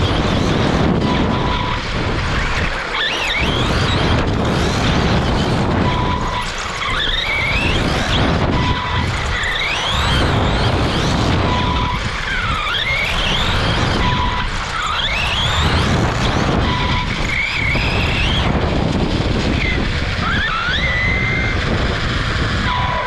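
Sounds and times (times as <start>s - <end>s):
electric motor whine: 0.0s - 23.0s
tyres rumbling on track: 0.0s - 23.0s
wind on microphone: 0.0s - 23.0s.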